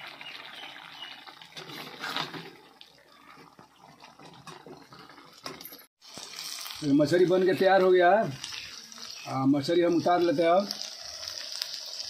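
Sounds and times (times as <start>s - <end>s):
curry bubbling and popping: 0.0s - 12.0s.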